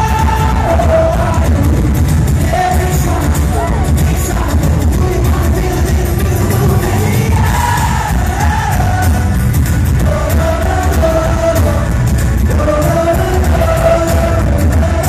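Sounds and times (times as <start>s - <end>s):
man singing: 0.0s - 15.0s
steady drum beat: 0.0s - 15.0s.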